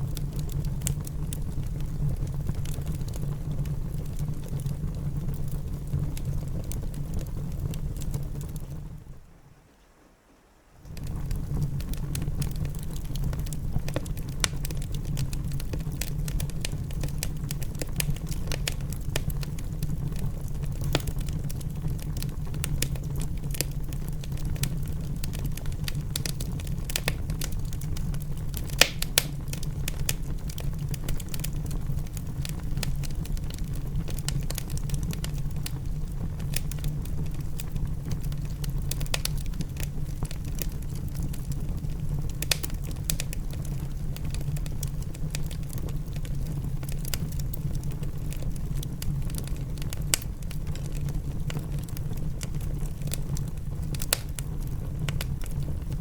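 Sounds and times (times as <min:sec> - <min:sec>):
fire pops and snaps: 0:00.0 - 0:08.9, 0:10.8 - 0:56.0
low fire rumble: 0:00.0 - 0:09.5, 0:10.8 - 0:56.0.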